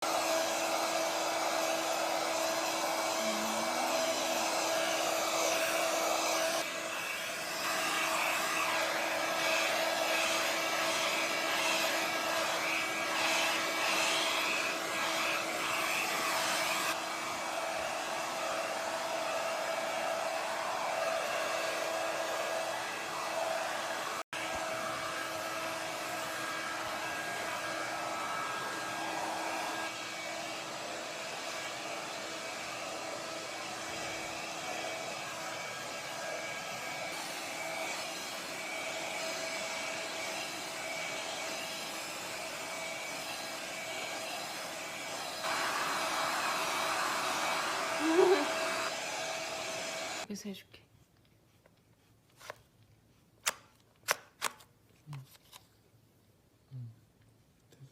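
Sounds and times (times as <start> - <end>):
hair dryer running: 0.0 - 50.3.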